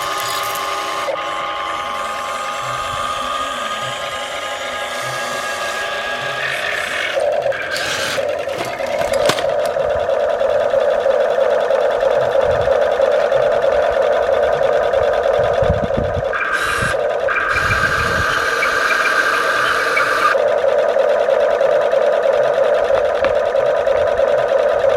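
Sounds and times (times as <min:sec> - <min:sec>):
higher whine: 0:00.0 - 0:24.9
toy electric motor whining: 0:00.0 - 0:24.9.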